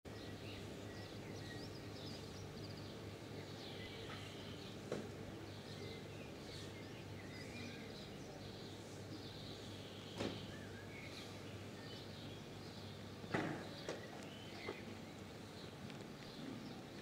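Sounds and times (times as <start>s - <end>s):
small birds chirping: 0.1s - 17.0s.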